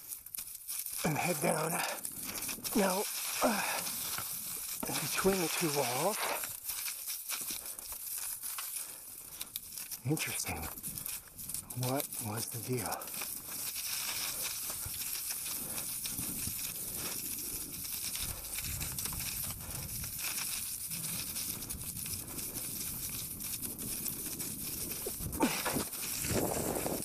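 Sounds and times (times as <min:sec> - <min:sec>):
bike tyres crunching over trail: 0:00.0 - 0:27.0.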